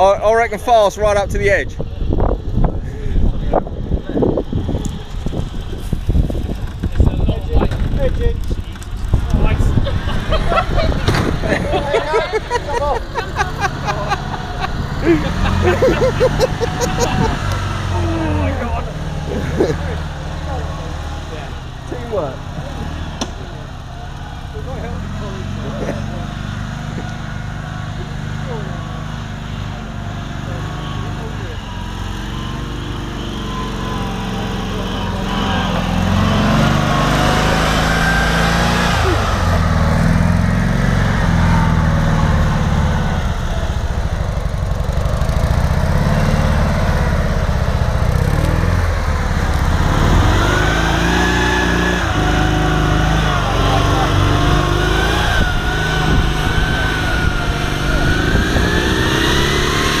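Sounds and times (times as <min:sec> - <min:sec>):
engine revving off-road: 0:00.0 - 1:00.0.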